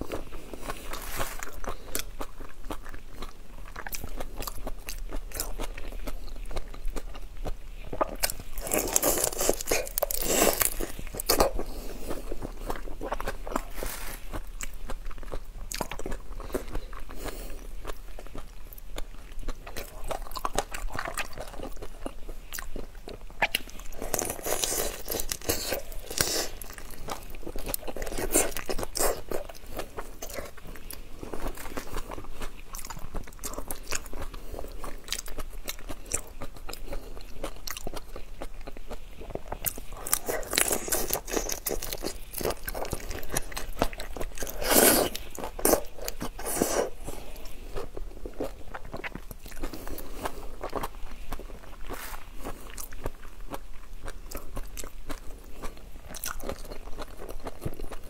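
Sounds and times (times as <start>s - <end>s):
crunchy biting and chewing: 0.0s - 58.0s.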